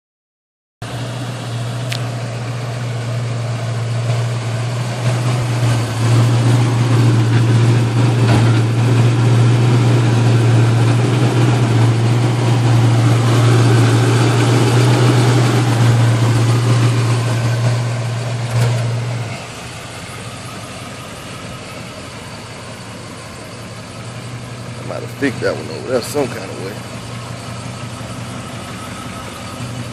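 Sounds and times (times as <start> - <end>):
car engine idling: 0.8 - 29.9.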